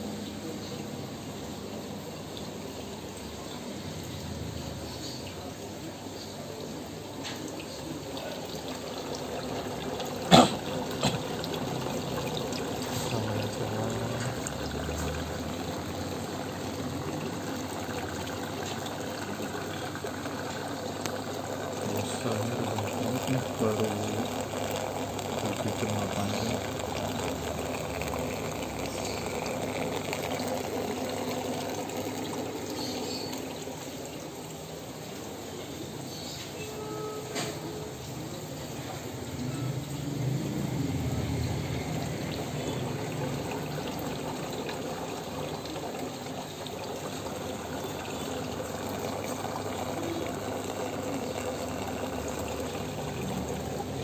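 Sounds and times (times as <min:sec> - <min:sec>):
aquarium skimmer bubbling: 0:00.0 - 0:54.0
water pouring and trickling: 0:00.0 - 0:54.0.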